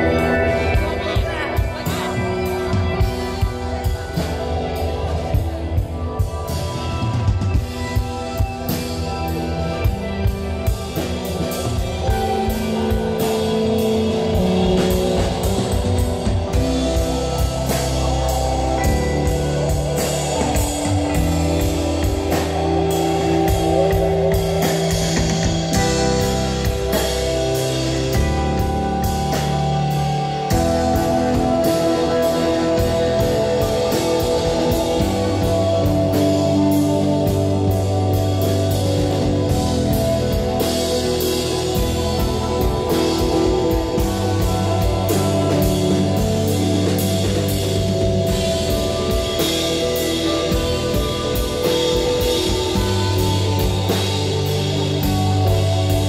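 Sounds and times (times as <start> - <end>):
bass guitar: 0.0 - 56.0
drum and cymbal hits: 0.0 - 56.0
electric guitar: 0.0 - 56.0.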